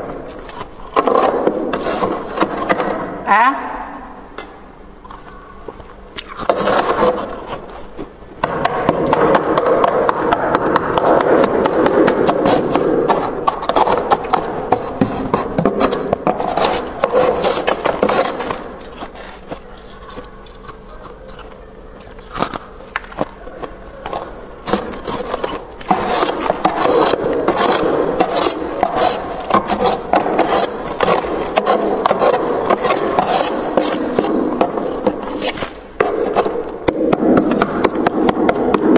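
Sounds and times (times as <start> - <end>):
freezer frost being scraped: 0.0 - 2.8, 6.2 - 22.9, 24.1 - 38.9.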